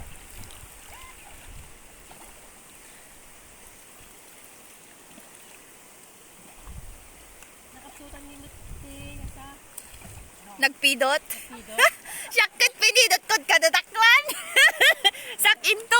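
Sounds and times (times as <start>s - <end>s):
water rushing: 0.0s - 15.9s.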